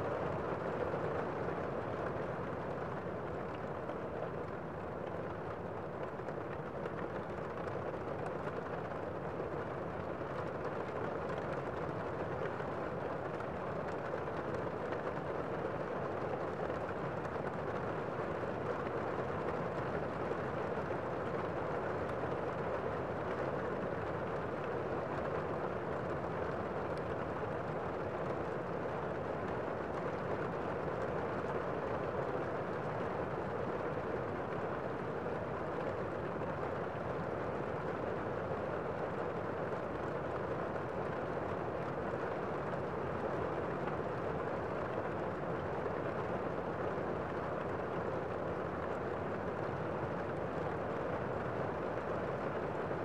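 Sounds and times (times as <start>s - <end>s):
steady rain: 0.1s - 53.0s.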